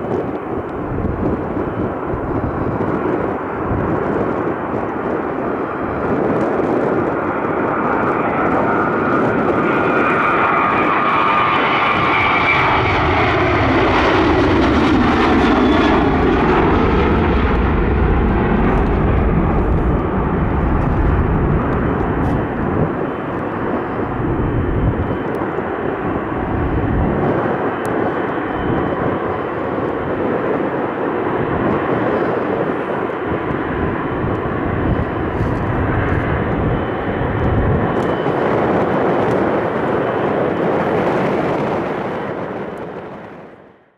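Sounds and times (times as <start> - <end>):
jet engine low rumble: 0.0 - 43.9
jet engines whining at takeoff: 0.0 - 43.9.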